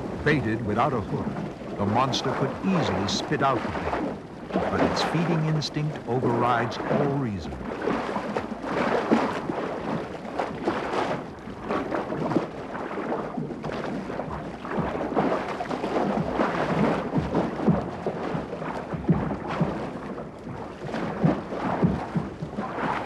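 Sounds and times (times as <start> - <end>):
heavy splashing and churning water: 0.0 - 23.0
thumping splashes: 0.0 - 23.0.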